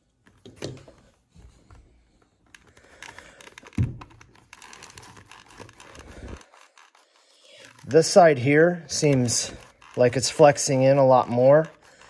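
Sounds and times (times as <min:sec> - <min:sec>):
helmet clicks creaks and rustles: 0:00.0 - 0:12.0.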